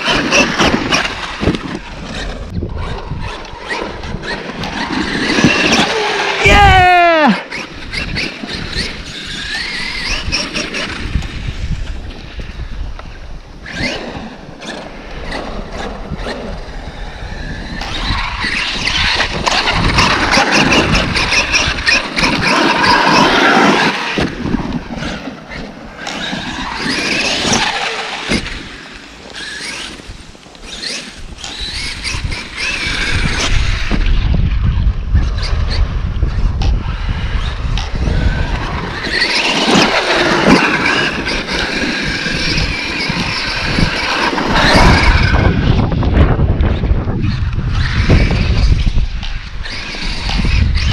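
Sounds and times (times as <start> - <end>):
electric motor whining: 0.0 - 50.9.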